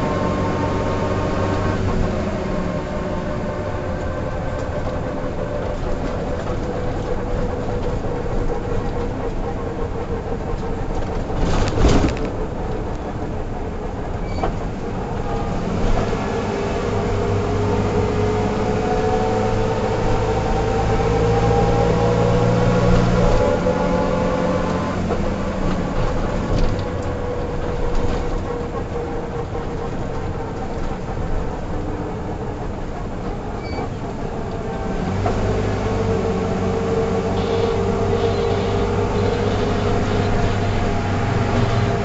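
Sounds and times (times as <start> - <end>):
bus diesel engine: 0.0 - 42.0.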